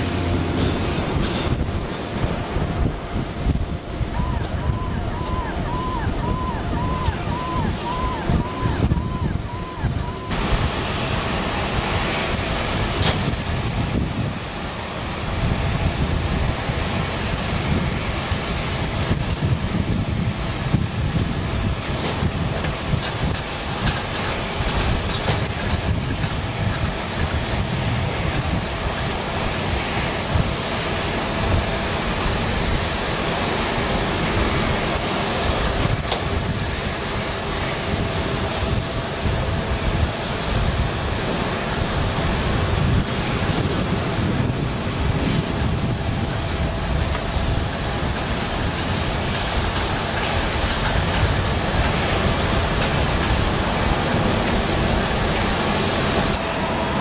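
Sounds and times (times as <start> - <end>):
jet aircraft whine: 0.0 - 57.0.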